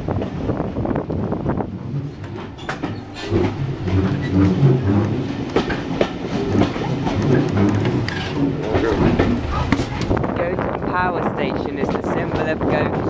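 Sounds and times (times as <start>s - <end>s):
wheels clacking over rails: 0.0s - 11.1s
train rumble from inside carriage: 0.0s - 13.0s.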